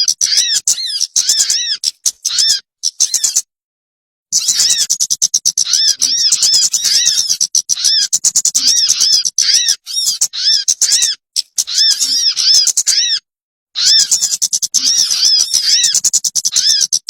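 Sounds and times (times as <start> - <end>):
bird lure chattering calls: 0.0 - 3.5, 4.3 - 17.0.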